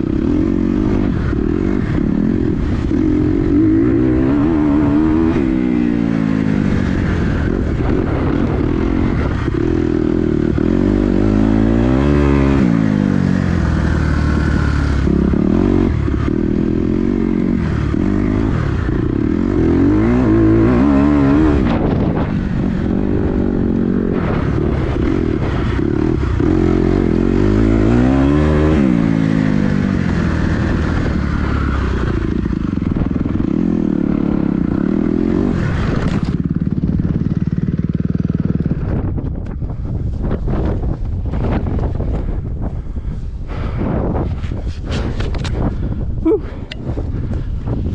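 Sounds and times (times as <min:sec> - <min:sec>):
dirt bike engine revving: 0:00.0 - 0:39.2.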